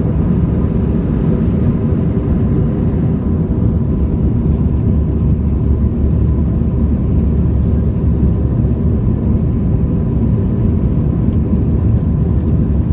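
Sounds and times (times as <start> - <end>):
jet engine rumble in cabin: 0.0 - 12.9.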